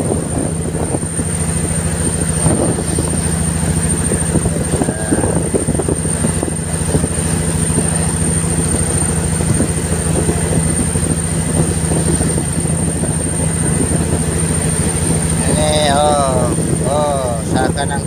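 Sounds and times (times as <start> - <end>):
boat engine droning: 0.0 - 18.0
rushing water and wind: 0.0 - 18.0.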